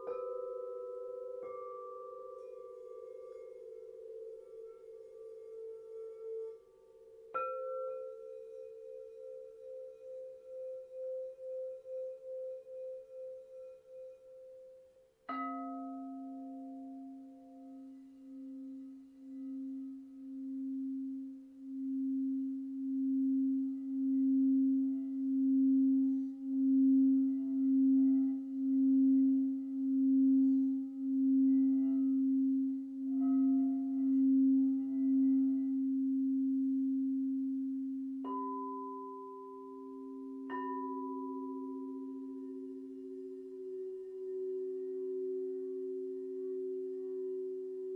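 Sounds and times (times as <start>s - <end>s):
low singing bowl tone: 0.0s - 47.9s.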